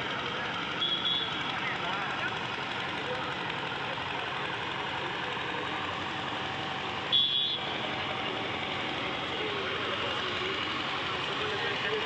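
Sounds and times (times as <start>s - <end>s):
faint voices: 0.0s - 12.0s
steady engine noise: 0.0s - 12.0s.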